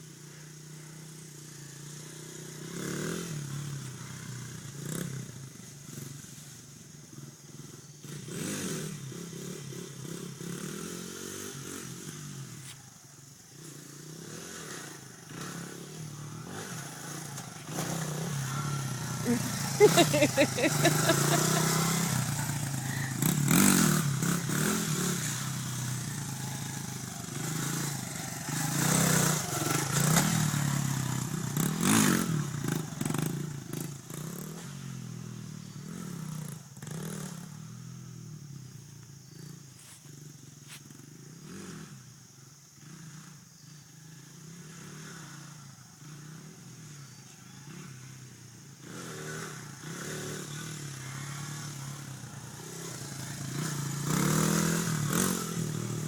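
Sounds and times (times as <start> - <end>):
dirt bike engine revving: 0.2 - 6.5, 7.5 - 12.6, 13.6 - 38.3, 44.2 - 47.0, 47.6 - 56.0.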